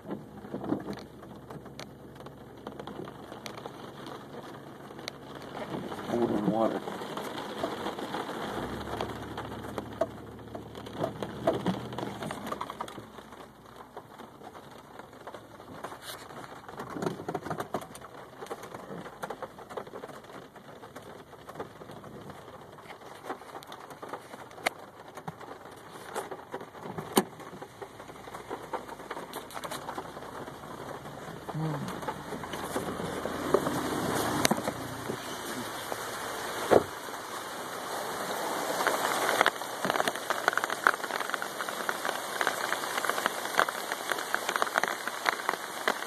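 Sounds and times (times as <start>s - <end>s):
heavy rain on a car roof: 0.0s - 46.0s.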